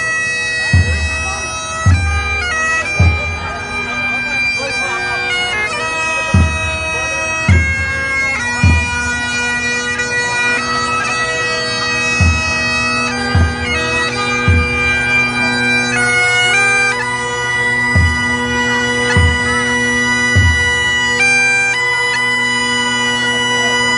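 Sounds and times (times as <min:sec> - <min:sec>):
bagpipe playing slow tune: 0:00.0 - 0:23.9.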